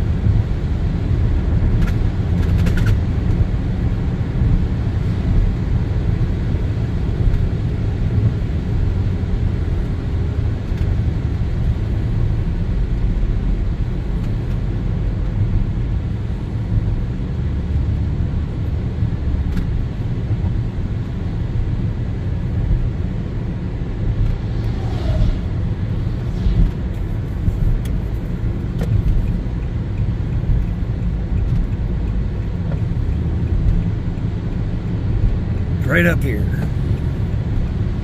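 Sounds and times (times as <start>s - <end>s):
vehicle engine and tyre rumble: 0.0s - 38.0s.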